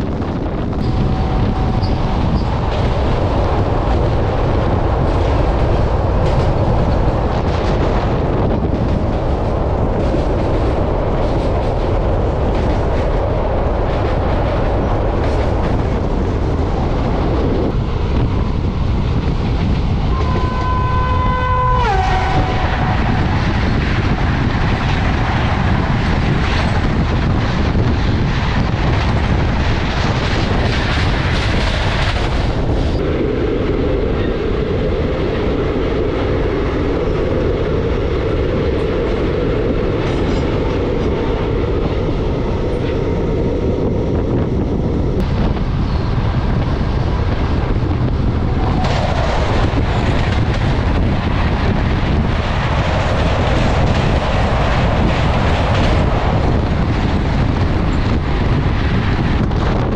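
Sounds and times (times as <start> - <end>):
goods train drone: 0.0 - 59.9
passing train rush and rattle: 0.0 - 59.9.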